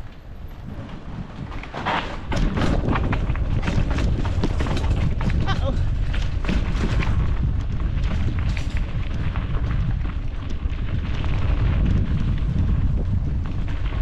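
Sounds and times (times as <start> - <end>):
wind buffeting microphone: 0.0 - 14.0
knocks and rattles: 0.5 - 14.0.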